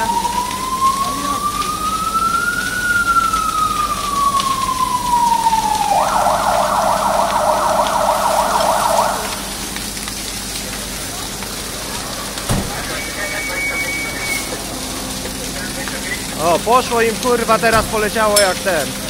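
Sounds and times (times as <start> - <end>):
fire engine siren: 0.0 - 19.0
steady hiss: 1.2 - 19.0.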